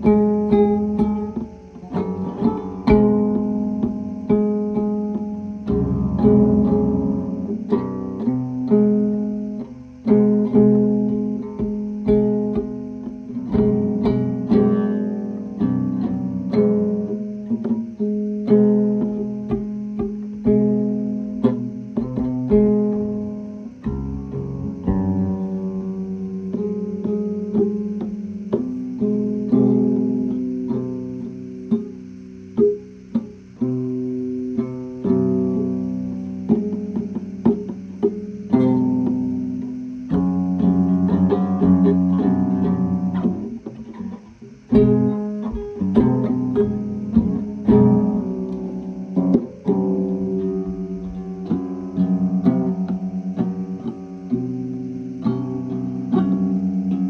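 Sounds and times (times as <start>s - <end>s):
plucked guitar music: 0.0s - 57.0s.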